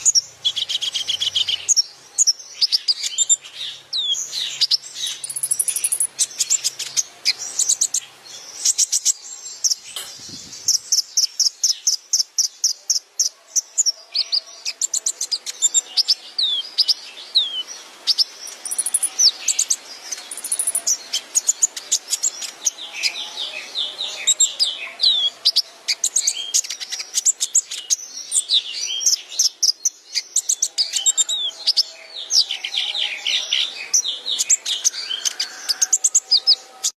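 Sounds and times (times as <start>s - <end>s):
sunbird singing rapid chirps: 0.0s - 37.0s.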